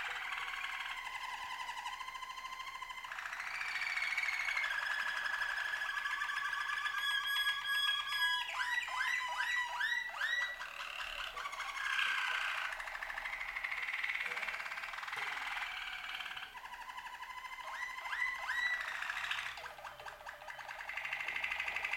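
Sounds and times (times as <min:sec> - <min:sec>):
canaries singing trills: 0:00.0 - 0:21.9.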